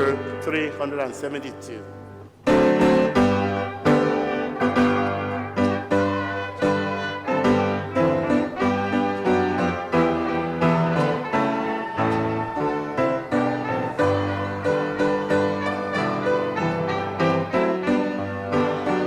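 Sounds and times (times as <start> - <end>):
keyboard playing hymn chords: 0.0 - 19.0.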